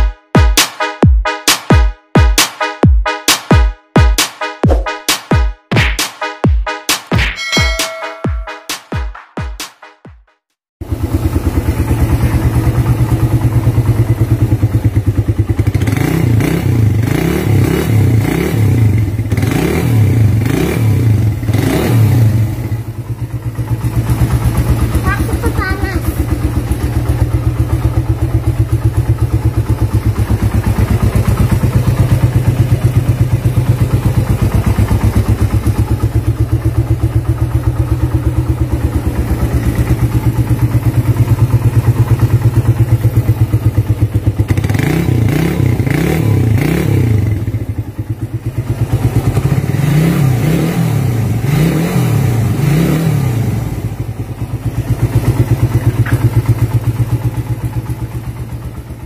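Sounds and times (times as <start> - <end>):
motorcycle engine idling: 10.8 - 51.6, 52.3 - 59.0
throttle blips revving engine: 10.8 - 58.5.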